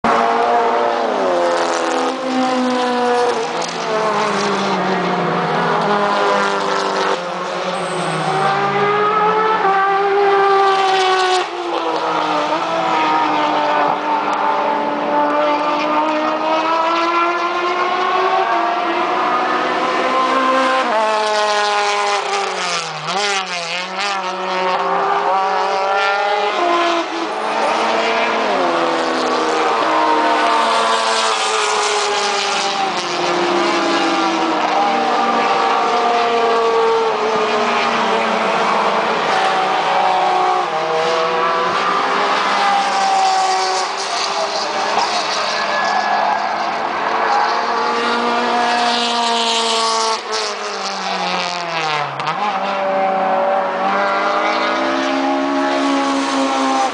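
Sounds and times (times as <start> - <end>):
race car engines accelerating: 0.0 - 56.9.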